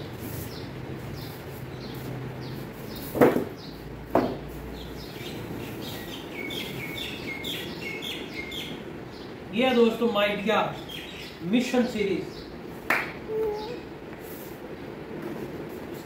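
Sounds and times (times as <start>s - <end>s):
small birds chirping: 0.0s - 15.1s.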